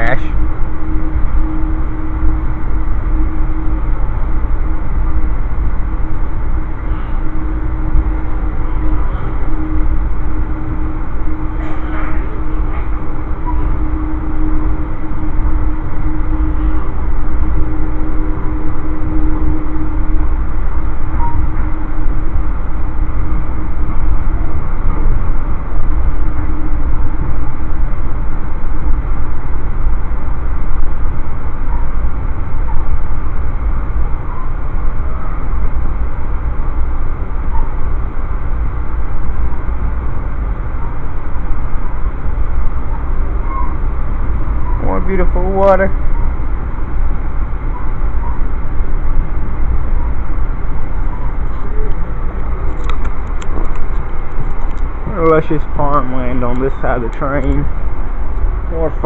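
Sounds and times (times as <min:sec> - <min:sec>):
faint steady hum: 0:00.0 - 0:59.0
train rumbling at speed: 0:00.0 - 0:59.0.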